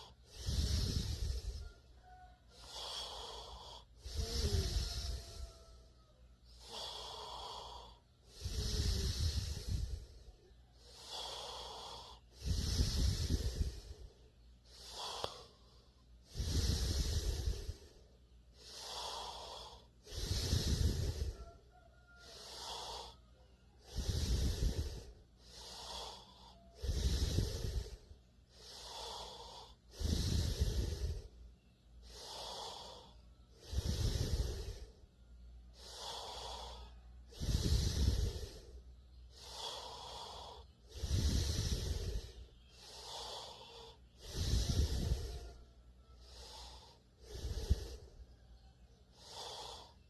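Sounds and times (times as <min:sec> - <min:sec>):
person snoring: 0:00.0 - 0:31.4, 0:32.0 - 0:35.0, 0:35.6 - 0:50.0.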